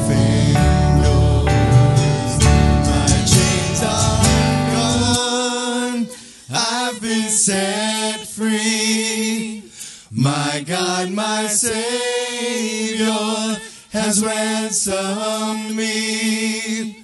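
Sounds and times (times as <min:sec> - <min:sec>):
gospel band and singers: 0:00.0 - 0:17.0.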